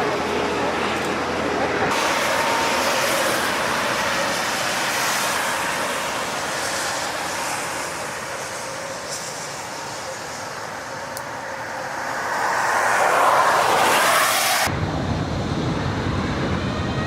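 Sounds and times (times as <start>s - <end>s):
airliner engines roaring: 0.0s - 17.0s
faint engine whine: 0.0s - 17.0s.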